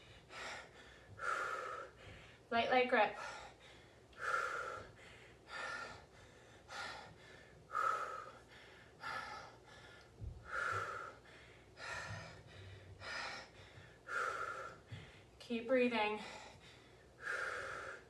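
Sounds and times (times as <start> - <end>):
woman breathing hard: 0.0 - 15.5, 16.1 - 18.0.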